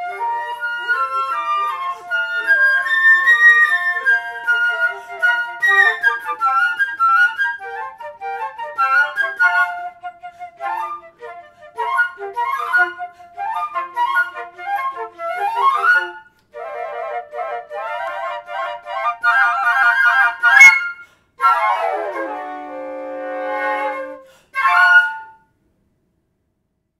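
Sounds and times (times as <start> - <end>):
flutes playing fast runs: 0.0 - 25.4.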